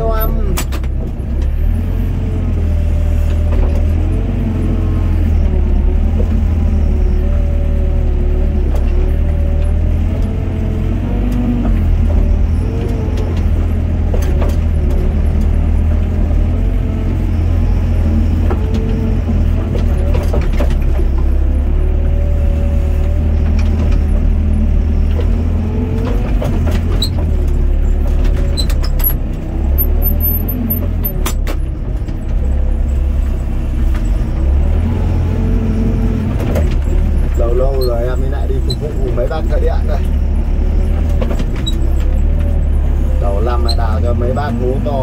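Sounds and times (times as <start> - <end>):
diesel engine running: 0.0 - 45.0
hydraulics whining: 0.0 - 45.0.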